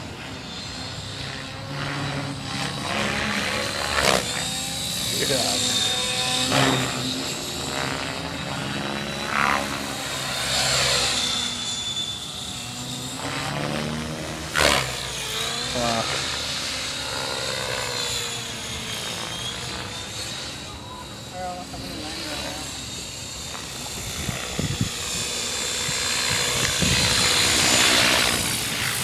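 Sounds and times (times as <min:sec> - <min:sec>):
rc helicopter rotor whir: 0:00.0 - 0:29.0.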